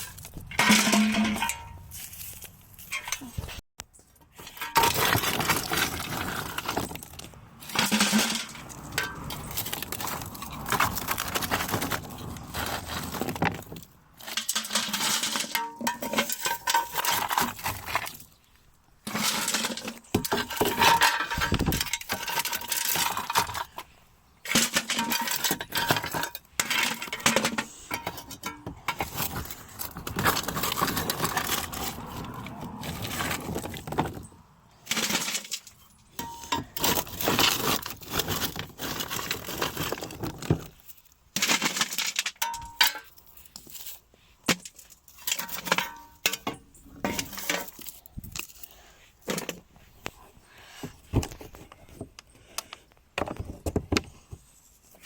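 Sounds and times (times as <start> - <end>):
hard objects clinking and clattering: 0.0 - 18.4, 19.0 - 49.7.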